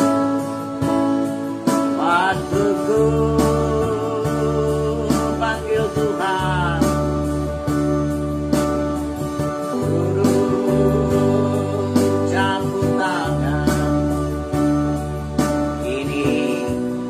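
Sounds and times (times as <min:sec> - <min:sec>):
keyboard gospel chords: 0:00.0 - 0:17.0
slide guitar-like lead: 0:00.0 - 0:17.0.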